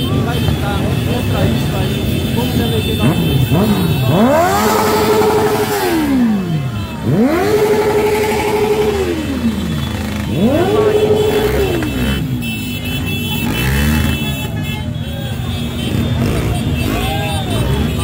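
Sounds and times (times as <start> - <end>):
motorcycle engine revving: 0.0 - 14.6, 15.3 - 18.0
other motorcycles running: 0.0 - 18.0.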